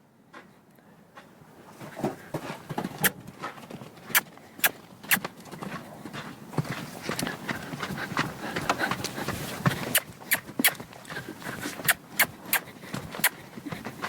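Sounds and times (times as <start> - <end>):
horse hooves on ground: 1.2 - 14.0.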